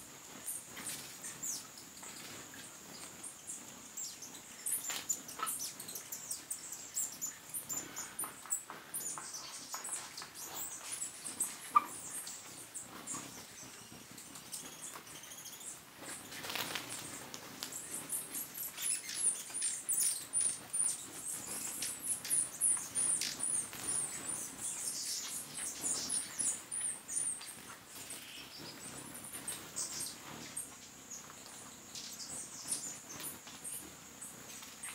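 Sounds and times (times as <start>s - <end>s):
hummingbird wings whirring: 0.3s - 34.9s.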